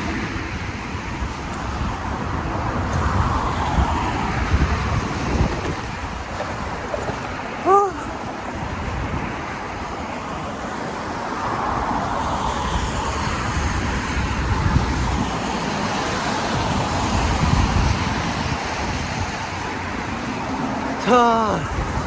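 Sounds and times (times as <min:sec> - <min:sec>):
bicycle road rumble: 0:00.0 - 0:22.0
wind on microphone: 0:00.0 - 0:22.0.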